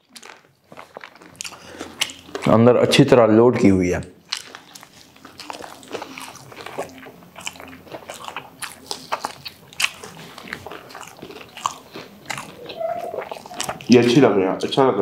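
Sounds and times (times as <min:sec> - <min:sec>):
people biting and chewing food: 0:00.0 - 0:15.0.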